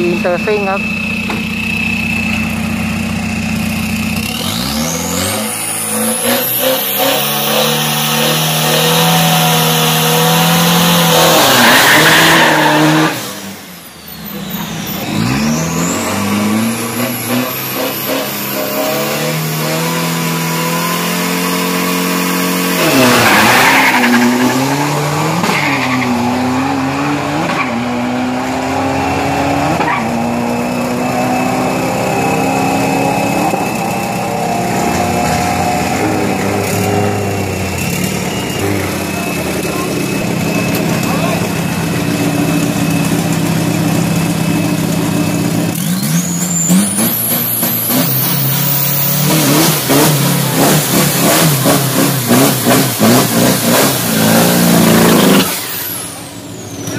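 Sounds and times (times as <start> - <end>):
diesel truck engine revving: 0.0 - 56.9.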